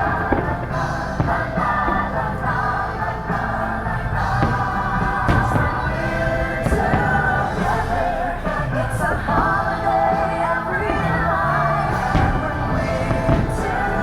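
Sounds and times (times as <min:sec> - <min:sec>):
festive music with choir: 0:00.0 - 0:14.0.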